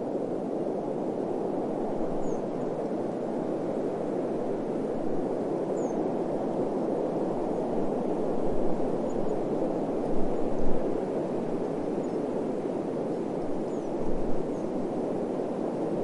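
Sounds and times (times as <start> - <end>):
wind blowing in gusts: 0.0 - 16.0.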